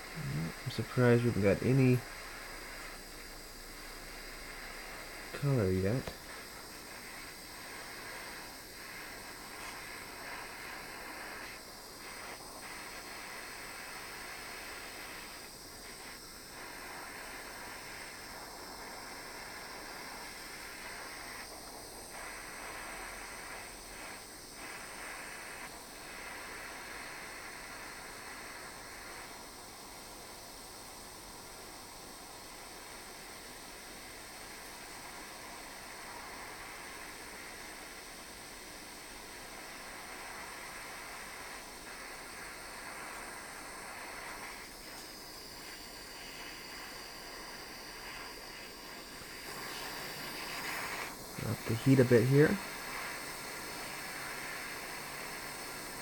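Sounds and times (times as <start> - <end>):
soldering torch flame hissing: 0.0 - 56.0.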